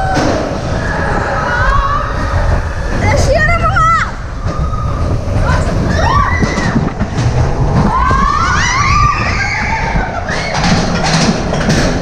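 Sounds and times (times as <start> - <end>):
riders screaming: 0.0 - 6.9, 7.8 - 10.8
roller coaster rumbling on track: 0.0 - 12.0.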